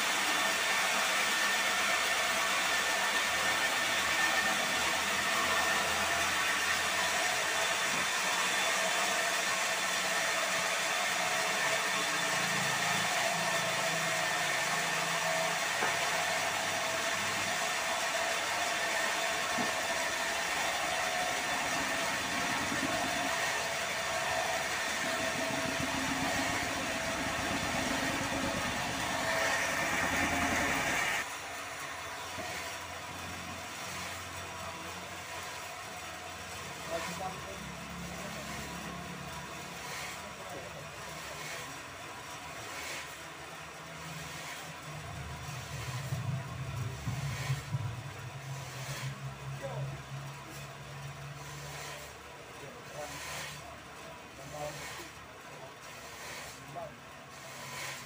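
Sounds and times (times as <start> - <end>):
sawmill machinery hum and whine: 0.0 - 58.0.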